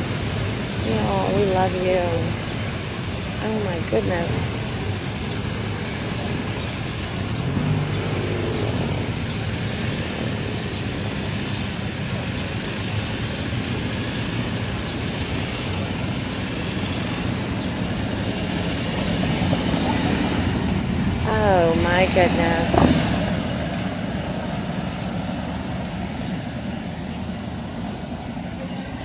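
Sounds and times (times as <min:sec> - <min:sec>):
motorcycles riding past: 0:00.0 - 0:27.2.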